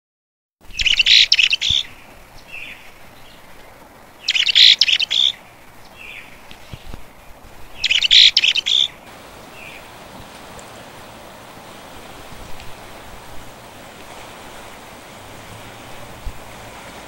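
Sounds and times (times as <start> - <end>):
songbird singing: 0.6 - 17.0.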